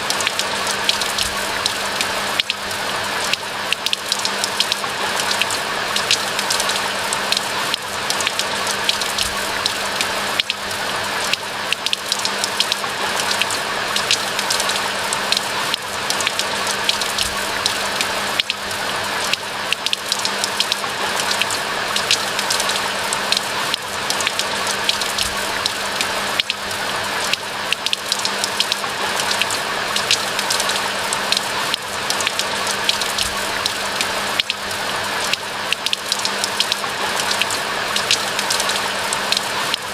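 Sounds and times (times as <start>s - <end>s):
raindrops pattering: 0.0s - 39.9s
steady rain hiss: 0.0s - 39.9s.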